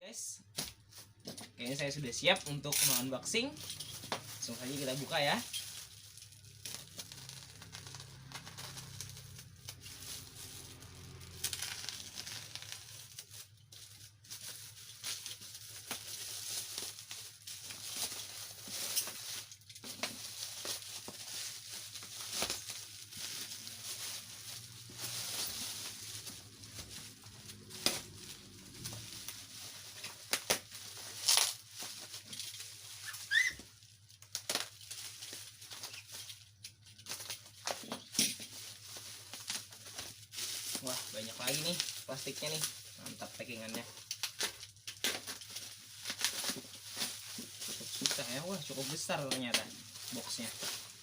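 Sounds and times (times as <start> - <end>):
plastic packaging crinkling and tearing: 0.7 - 51.0.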